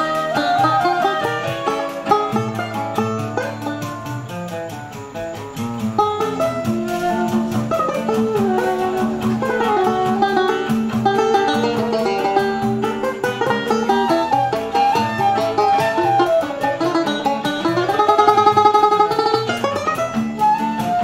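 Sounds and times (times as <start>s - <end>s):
woodwind melody: 0.0s - 4.2s, 5.8s - 21.0s
acoustic guitar: 0.0s - 21.0s
banjo strumming chords: 0.0s - 21.0s.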